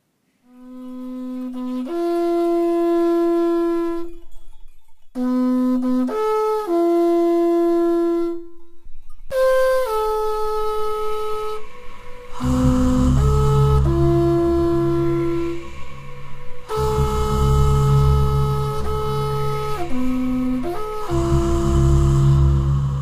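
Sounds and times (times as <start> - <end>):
solo wind instrument: 0.4 - 23.0.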